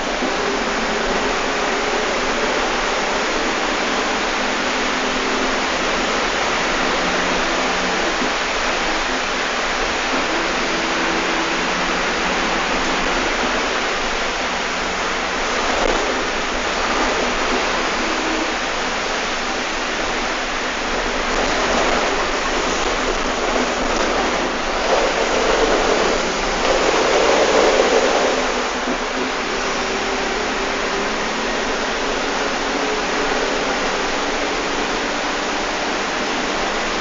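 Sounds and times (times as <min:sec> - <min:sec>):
bus engine: 0:00.0 - 0:37.0
rain noise: 0:00.0 - 0:37.0
road noise: 0:00.0 - 0:37.0.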